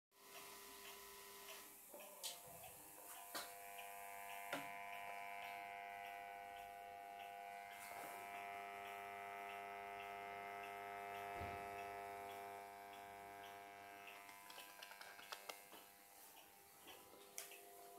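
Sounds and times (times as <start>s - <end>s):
tube radio hum: 0.3s - 17.9s
sharp clicks: 2.3s - 17.8s.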